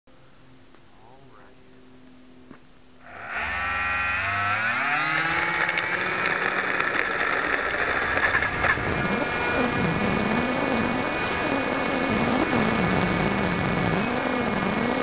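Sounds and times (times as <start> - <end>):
electric propeller motor whine: 0.1 - 15.0.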